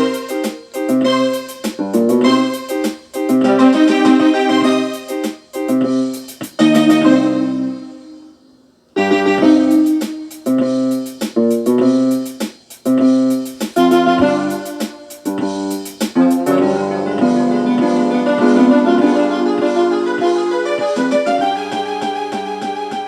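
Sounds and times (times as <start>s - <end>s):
keyboard chords music: 0.0s - 23.0s.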